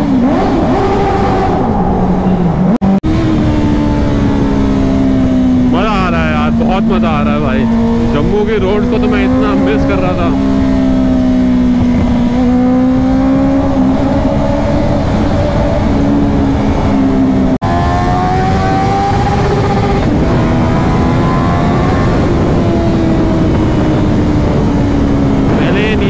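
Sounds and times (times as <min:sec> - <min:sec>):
motorcycle engine at speed: 0:00.0 - 0:26.0
wind rush: 0:00.0 - 0:26.0.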